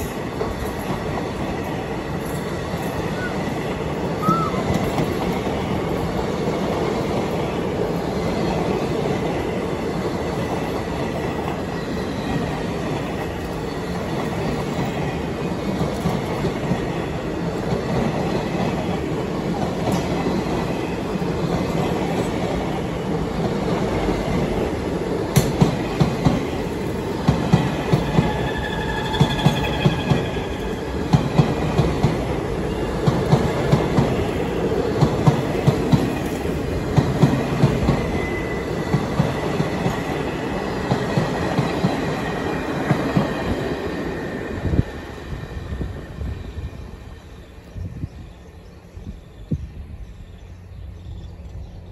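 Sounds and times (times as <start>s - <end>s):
train wheels clacking: 0.0s - 45.3s.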